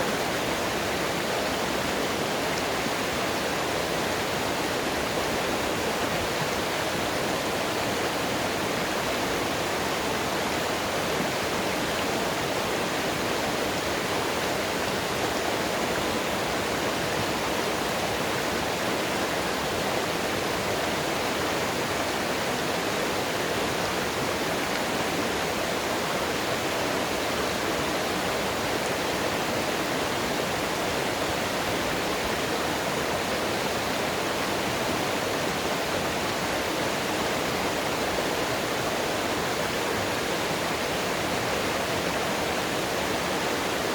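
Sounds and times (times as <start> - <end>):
water rushing over rocks: 0.0 - 43.9.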